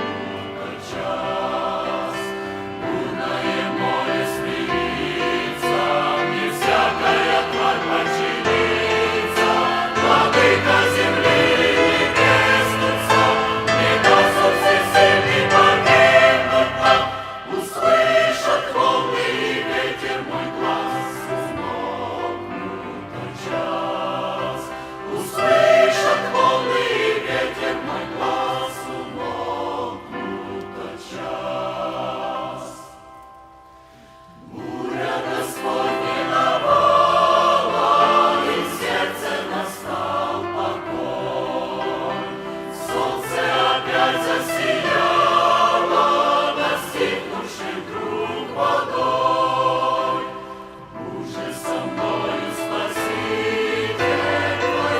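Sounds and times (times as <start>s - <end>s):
choir singing a hymn: 0.0s - 54.9s.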